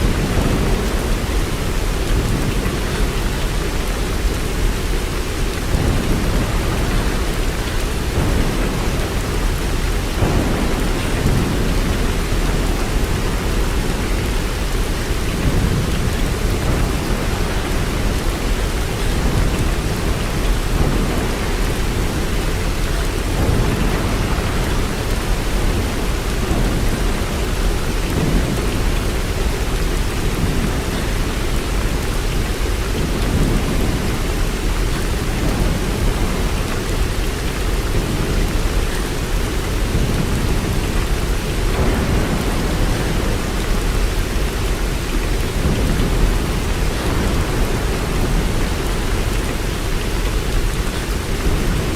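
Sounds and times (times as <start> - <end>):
heavy rainfall: 0.0 - 51.9.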